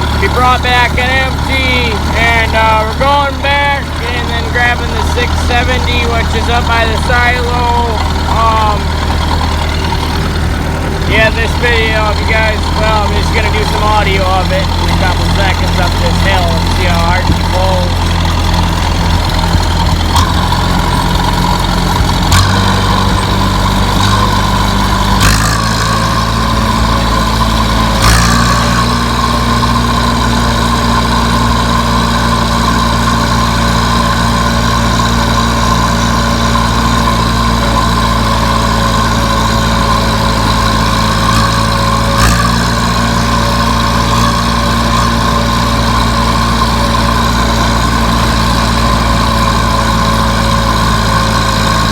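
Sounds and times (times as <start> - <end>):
tractor engine under load: 0.0 - 51.9.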